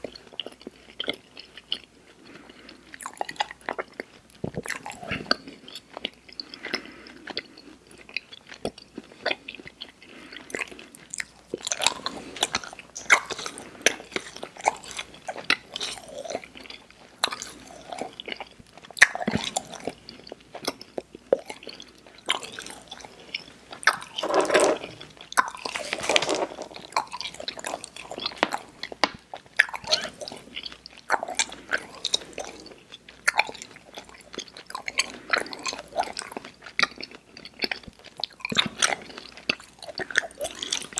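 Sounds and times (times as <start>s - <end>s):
chewing candy: 0.0s - 40.9s.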